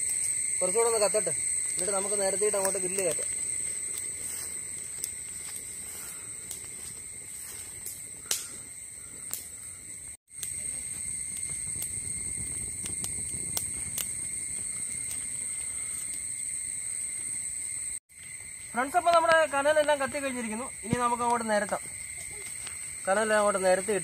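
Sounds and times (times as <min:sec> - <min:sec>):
fire crackling: 0:00.0 - 0:24.0
insects droning: 0:00.0 - 0:24.0.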